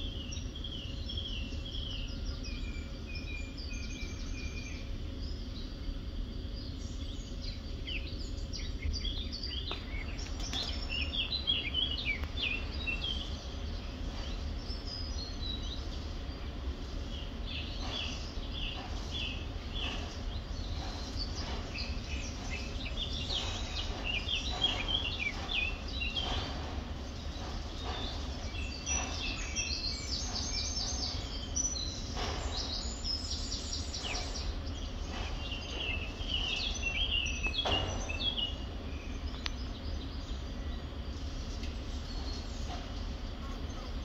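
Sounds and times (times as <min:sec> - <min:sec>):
small birds chirping: 0:00.0 - 0:44.0
steady low hum: 0:00.0 - 0:44.0.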